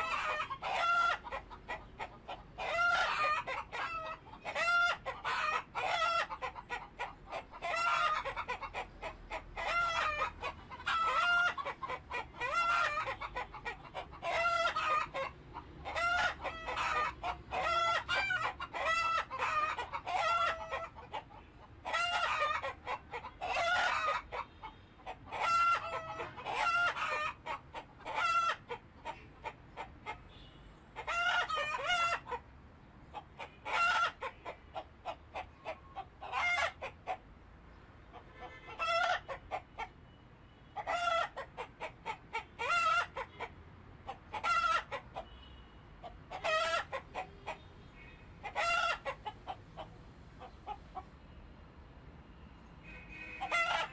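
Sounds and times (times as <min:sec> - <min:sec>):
chickens clucking: 0:00.0 - 0:30.3, 0:30.9 - 0:37.3, 0:38.0 - 0:51.4, 0:53.4 - 0:53.9.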